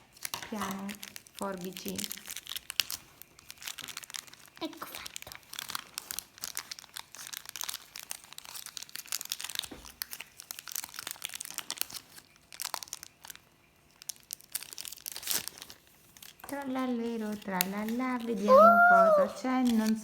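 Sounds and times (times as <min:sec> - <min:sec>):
wrapper crinkling: 0:00.0 - 0:20.0.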